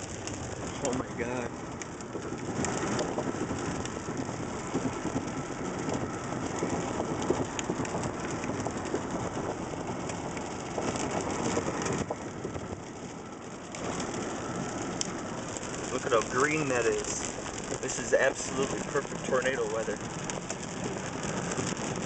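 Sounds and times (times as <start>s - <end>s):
rain: 0.0s - 22.0s
vehicle driving on road: 0.0s - 22.0s.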